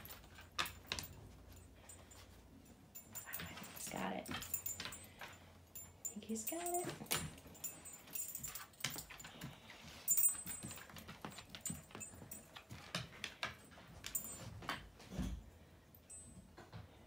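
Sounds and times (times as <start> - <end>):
dog's nails clicking on wooden floor: 0.0 - 2.4, 3.0 - 15.0.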